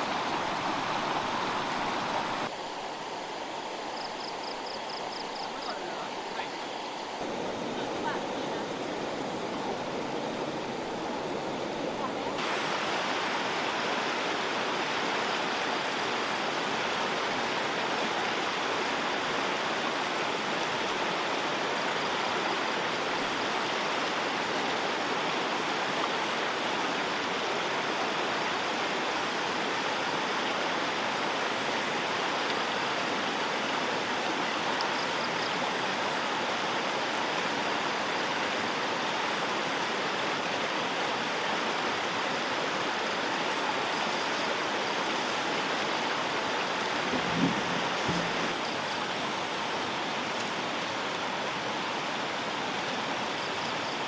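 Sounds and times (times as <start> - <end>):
fast-flowing river rushing: 0.0 - 3.9, 5.7 - 54.0.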